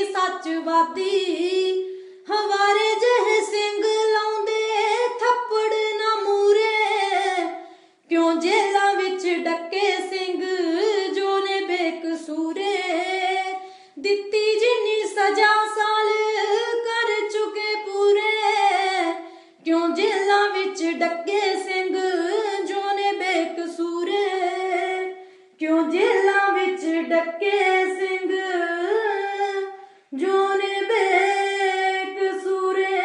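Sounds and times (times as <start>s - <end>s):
high voice singing unaccompanied: 0.0s - 33.0s.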